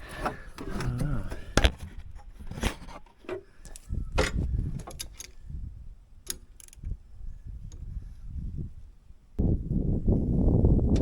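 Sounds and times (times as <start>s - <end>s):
low rumbling handling noise: 0.0s - 11.0s.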